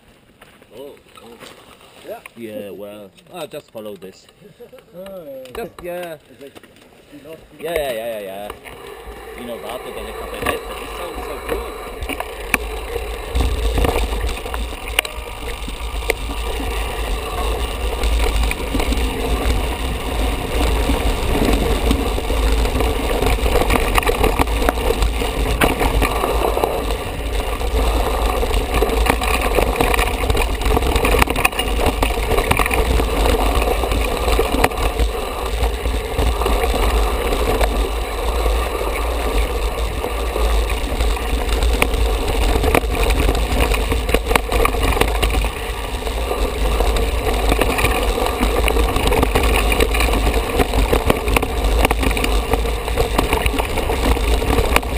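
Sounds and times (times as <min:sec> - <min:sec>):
bike rattling over stones: 0:00.0 - 0:54.9
bike tyres on dirt: 0:00.0 - 0:54.9
wind rumble on microphone: 0:08.6 - 0:54.9.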